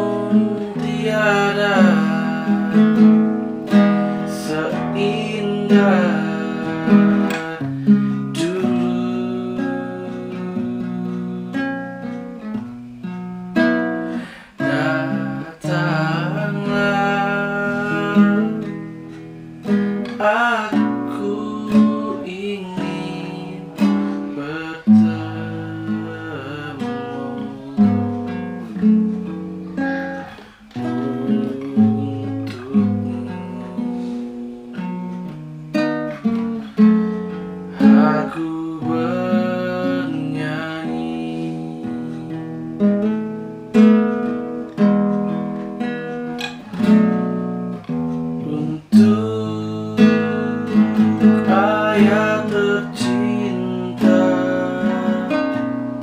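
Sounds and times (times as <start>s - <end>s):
man singing: 0.0s - 12.7s, 13.6s - 35.0s, 36.1s - 44.8s, 47.8s - 56.0s
classical guitar chords: 0.0s - 56.0s.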